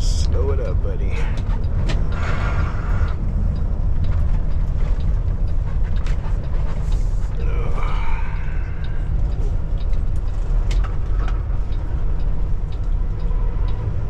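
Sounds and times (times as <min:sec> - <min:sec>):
diesel truck engine rumble: 0:00.0 - 0:14.0.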